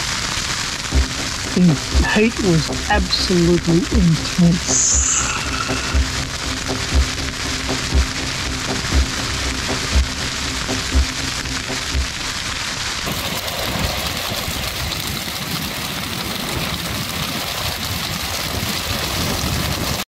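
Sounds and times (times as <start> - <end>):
flames roaring and crackling: 0.0 - 20.0.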